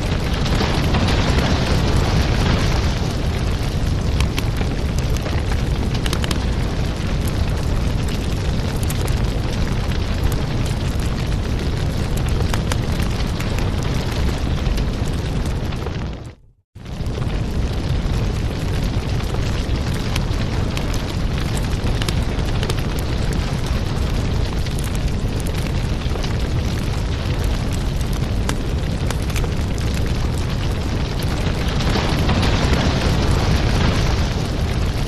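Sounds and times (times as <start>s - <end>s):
fireplace fire crackling: 0.0s - 35.0s.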